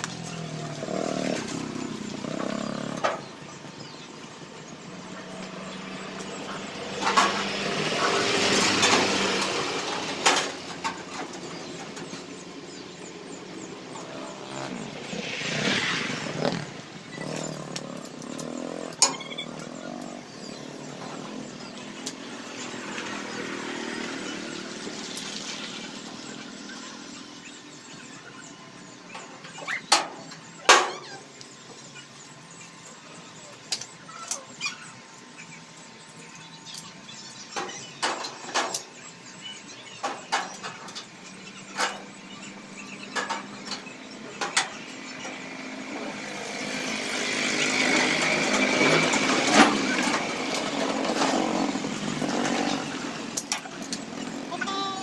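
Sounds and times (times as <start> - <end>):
motorcycles passing by: 0.0 - 55.0.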